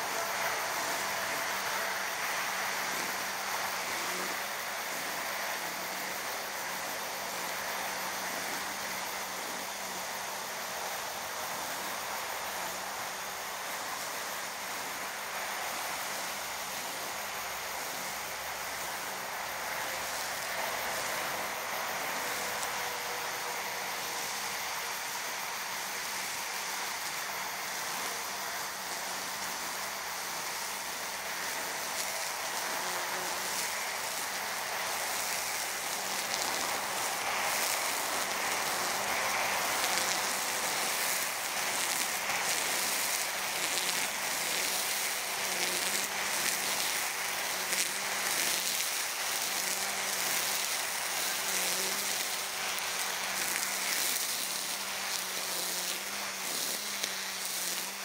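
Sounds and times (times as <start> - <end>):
string trimmer whirring: 0.0 - 58.0
traffic hiss: 0.0 - 58.0.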